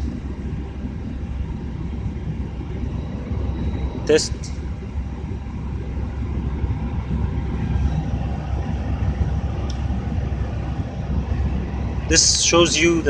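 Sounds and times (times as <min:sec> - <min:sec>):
aircraft cockpit rumble: 0:00.0 - 0:13.0
faint steady tones: 0:00.0 - 0:13.0.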